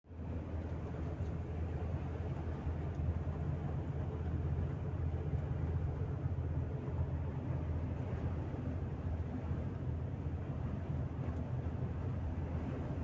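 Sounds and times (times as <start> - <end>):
road vehicle rumbling: 0.1 - 13.0.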